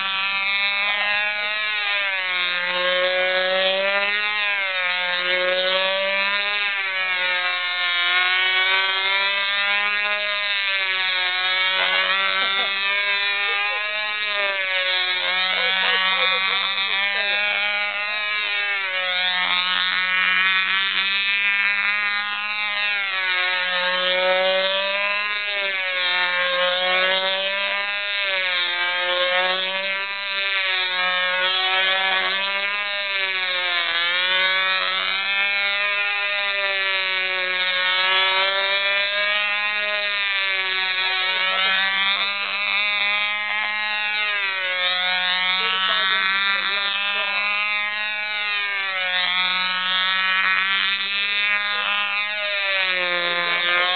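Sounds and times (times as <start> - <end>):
model airplane engine buzzing: 0.0 - 53.9.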